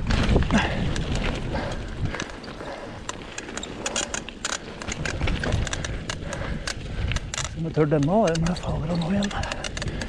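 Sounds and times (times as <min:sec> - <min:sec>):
bike rattling clicks and squeaks: 0:00.0 - 0:10.0
tyre and wind rumble: 0:00.0 - 0:10.0.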